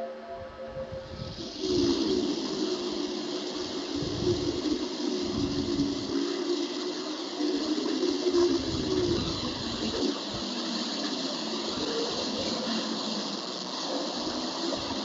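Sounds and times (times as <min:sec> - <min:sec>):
steady rushing noise: 0:00.0 - 0:15.0
wavering hum: 0:00.0 - 0:15.0.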